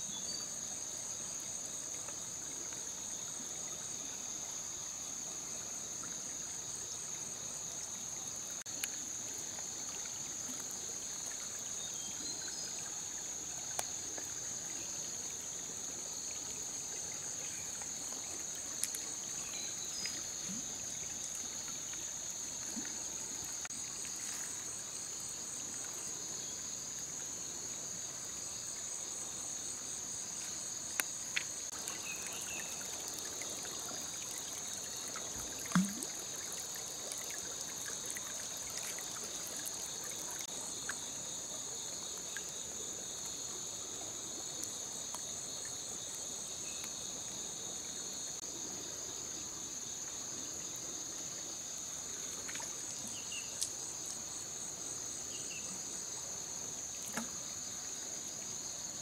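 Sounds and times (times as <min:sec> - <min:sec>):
insects chorus: 0:00.0 - 0:59.0
stream trickling: 0:00.0 - 0:59.0.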